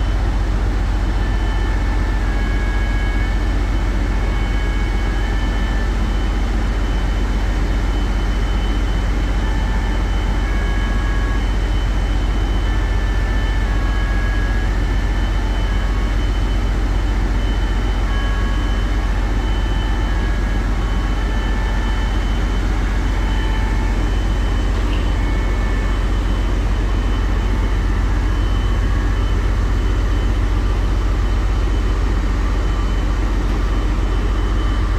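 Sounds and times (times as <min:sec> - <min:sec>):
marine diesel machinery rumble: 0:00.0 - 0:34.9.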